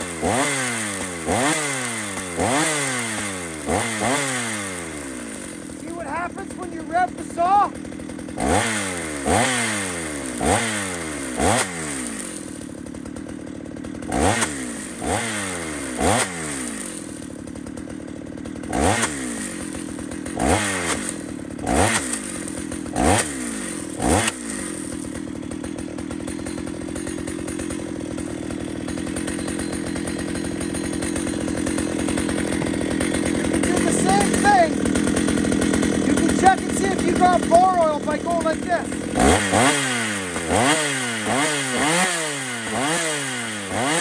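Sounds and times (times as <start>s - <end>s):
chainsaw revving and idling: 0.0s - 44.0s.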